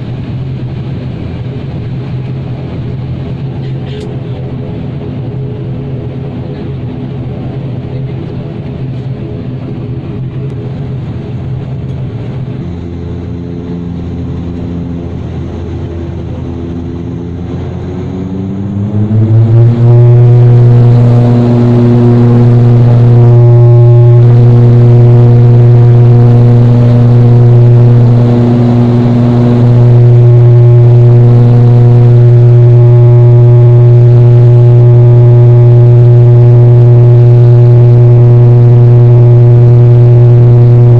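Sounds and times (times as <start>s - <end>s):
propeller engines droning: 0.0s - 40.9s.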